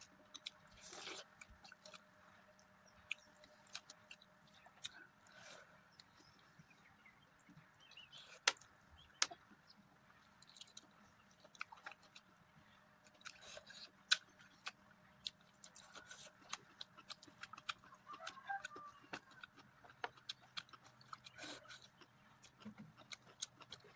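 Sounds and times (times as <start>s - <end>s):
person chewing with wet smacks: 0.0s - 6.4s, 10.4s - 12.4s, 13.0s - 23.9s.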